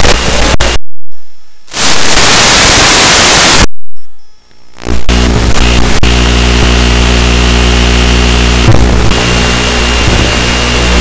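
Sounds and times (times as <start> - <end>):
loud static hiss: 0.0 - 3.8, 4.5 - 11.0
steady buzzing hum: 0.0 - 11.0.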